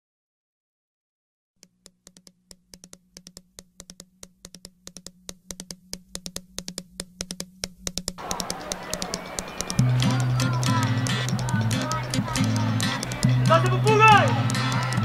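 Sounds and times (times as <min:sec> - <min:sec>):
sharp irregular clicks: 0:01.6 - 0:15.0.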